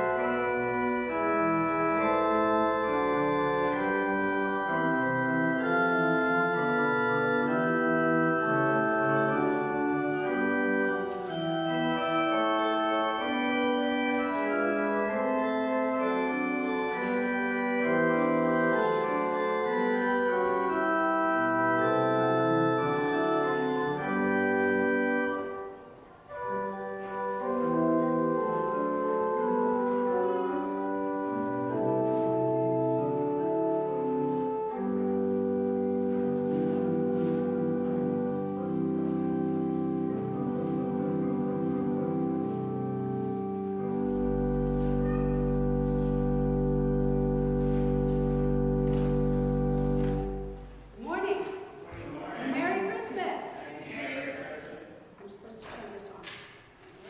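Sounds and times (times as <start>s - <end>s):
organ playing sustained chords: 0.0s - 51.2s.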